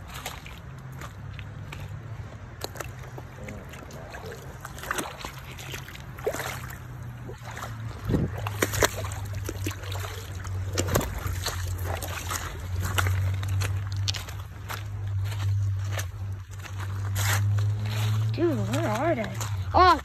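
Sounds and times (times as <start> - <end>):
footsteps on rocks and gravel: 0.0 - 20.0
steady low rumble: 0.0 - 20.0.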